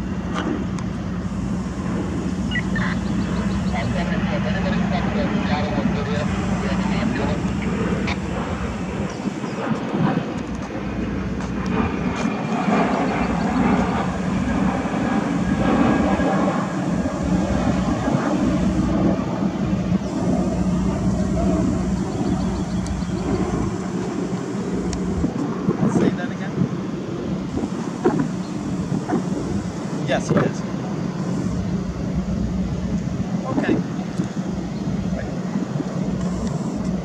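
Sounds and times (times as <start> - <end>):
low hum: 0.0 - 37.0
rushing rumble: 0.0 - 37.0.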